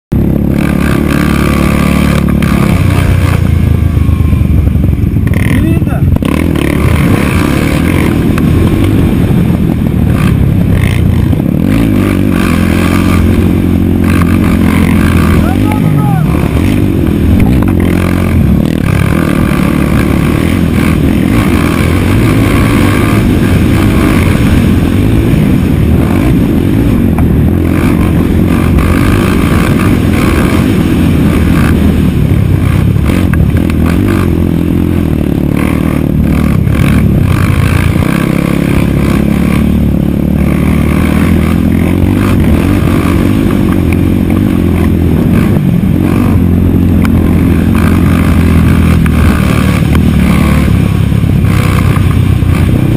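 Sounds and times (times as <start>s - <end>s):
quad engine revving: 0.1s - 52.9s.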